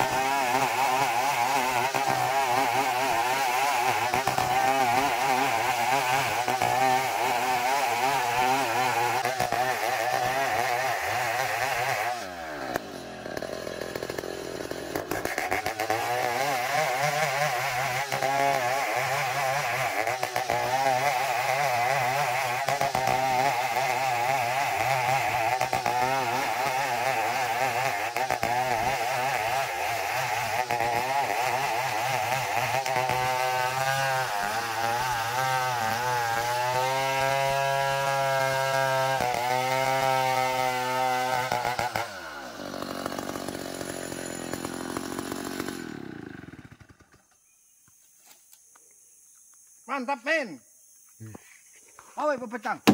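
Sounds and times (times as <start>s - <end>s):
chainsaw cutting wood: 0.0s - 48.6s.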